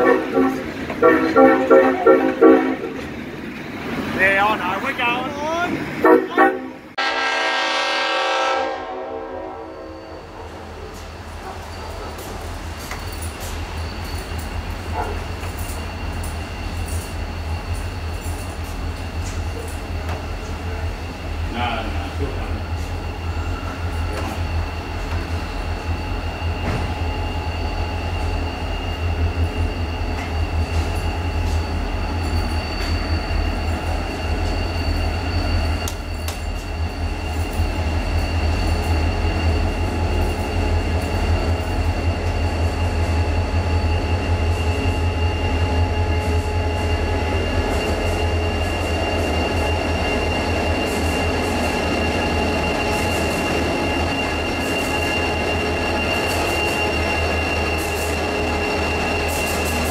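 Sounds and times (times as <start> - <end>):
diesel locomotive engine rumble: 0.0 - 59.9
high-pitched train squeal: 8.0 - 59.9.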